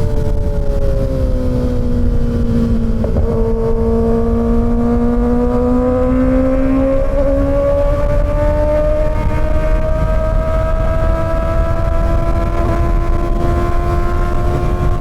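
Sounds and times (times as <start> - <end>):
motorcycle engine accelerating: 0.0 - 15.0
wind rumble on microphone: 0.0 - 15.0.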